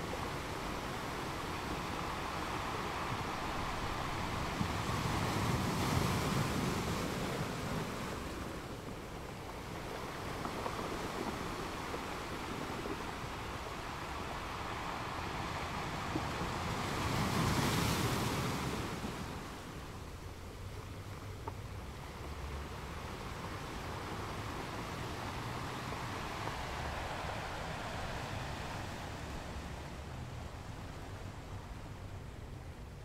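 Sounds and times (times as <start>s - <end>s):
ocean waves washing onto shore: 0.0s - 33.0s.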